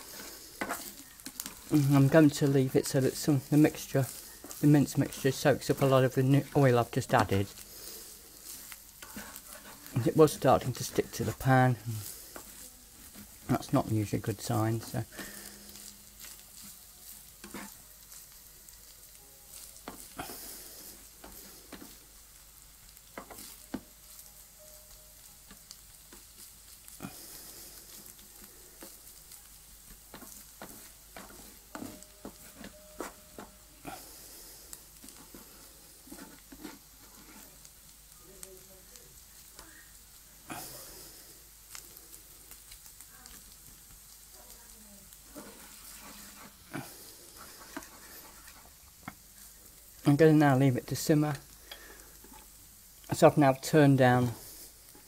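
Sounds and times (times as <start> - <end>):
spatula scraping and tapping pan: 0.0 - 37.8, 45.2 - 49.5, 51.0 - 55.0
chicken sizzling in oil: 0.0 - 55.0.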